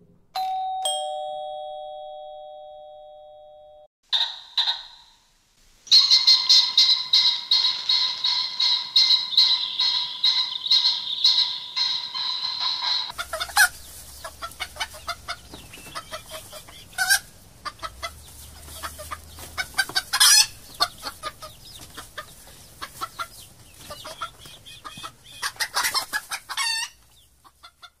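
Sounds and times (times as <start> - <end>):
loud chicken calls: 4.1 - 5.2, 5.9 - 28.0
chickens clucking: 4.2 - 5.1, 5.9 - 28.0.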